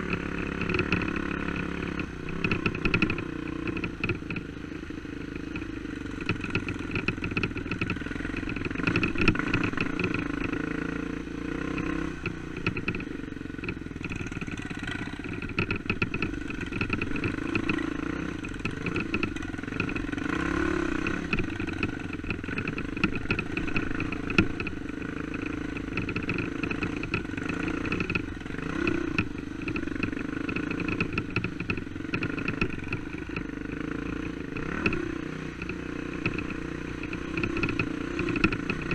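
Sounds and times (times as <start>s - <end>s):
knocks and clatter over rough ground: 0.0s - 4.5s, 5.5s - 10.7s, 11.7s - 38.9s
dirt bike engine running: 0.0s - 38.9s.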